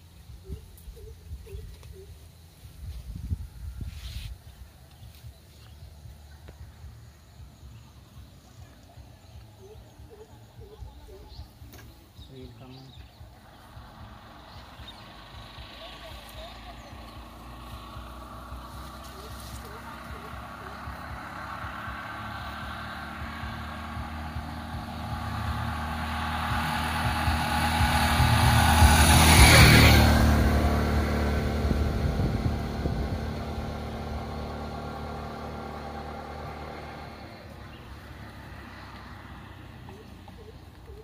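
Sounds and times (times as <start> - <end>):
auto-rickshaw engine driving past: 4.4 - 41.0.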